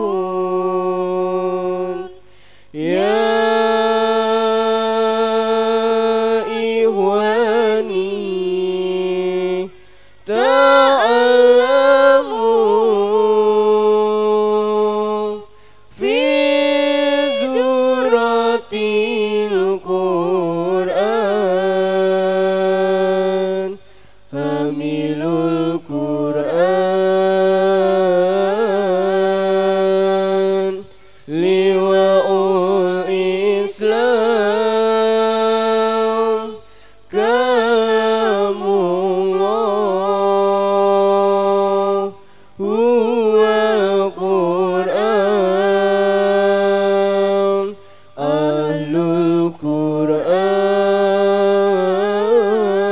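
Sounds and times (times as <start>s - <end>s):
woman chanting into a microphone: 0.0s - 2.2s, 2.8s - 52.9s.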